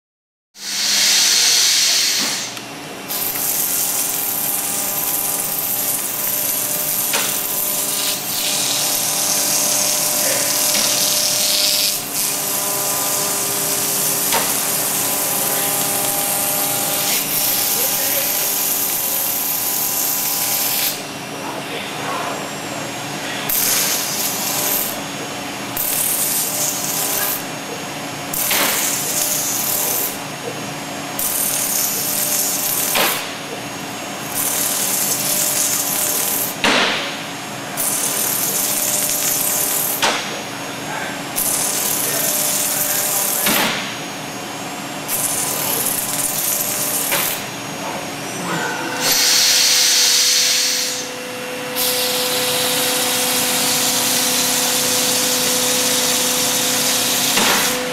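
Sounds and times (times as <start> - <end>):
router cutting hiss: 0.6 - 21.2, 22.8 - 57.9
steady machine hum: 0.6 - 57.9.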